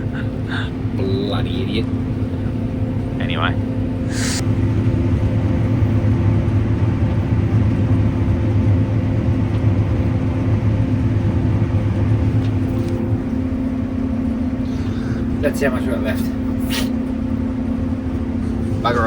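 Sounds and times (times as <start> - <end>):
combine harvester running: 0.0 - 19.0
steady low hum: 0.0 - 19.0.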